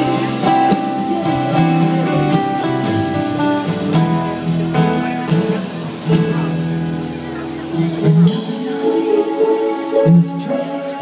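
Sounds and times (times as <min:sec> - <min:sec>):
guitars strummed and picked: 0:00.0 - 0:11.0.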